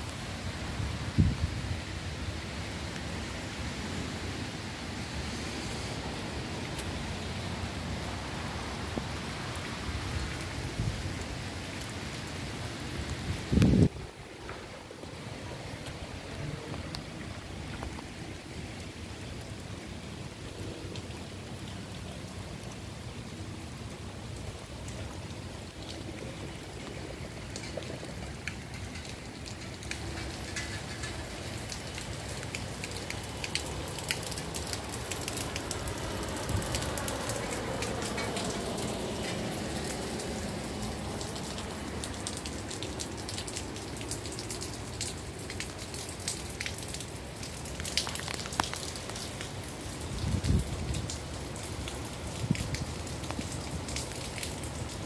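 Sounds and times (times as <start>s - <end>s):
car tyres on wet road: 0.0s - 55.0s
rain on wet pavement: 0.0s - 55.0s.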